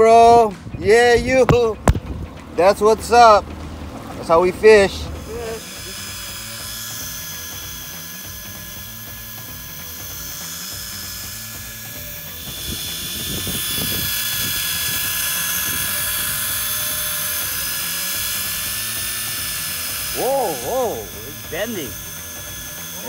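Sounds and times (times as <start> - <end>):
electric fishing reel whining: 4.3 - 23.0.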